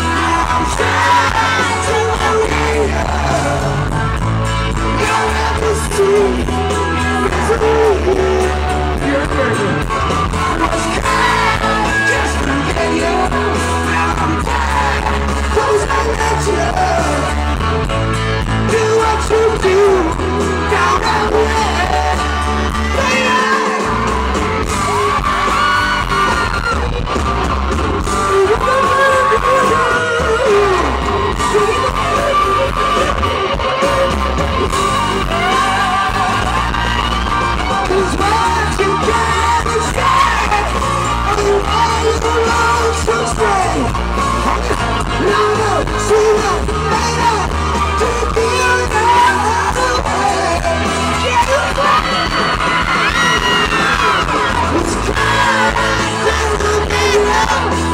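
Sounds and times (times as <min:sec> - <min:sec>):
electric guitar playing: 0:00.0 - 0:57.9
person singing and yelling: 0:00.0 - 0:57.9.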